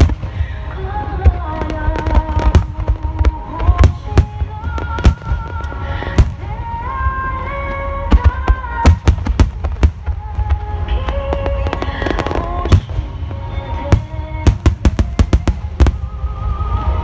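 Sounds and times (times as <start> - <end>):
fireworks bursting: 0.0 - 17.0
music over loudspeakers: 0.0 - 17.0.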